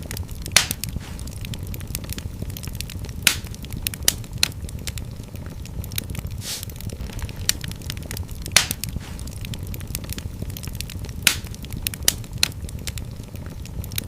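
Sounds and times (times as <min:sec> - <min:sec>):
low rumble of flames: 0:00.0 - 0:14.0
sharp pops of fire: 0:00.0 - 0:14.0
wood fire crackling: 0:00.0 - 0:14.0.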